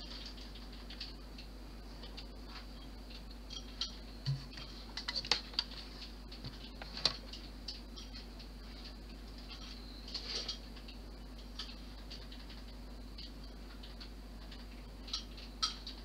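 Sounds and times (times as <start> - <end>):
faint hum with high whine: 0.0 - 16.0
small parts clicking and tapping: 0.0 - 16.0.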